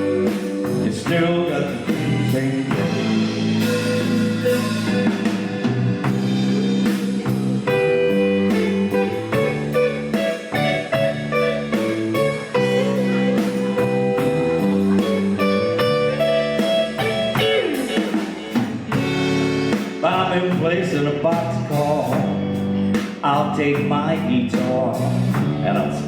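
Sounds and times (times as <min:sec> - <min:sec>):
drum kit steady beat: 0:00.0 - 0:25.9
electric guitar lines: 0:00.0 - 0:26.0.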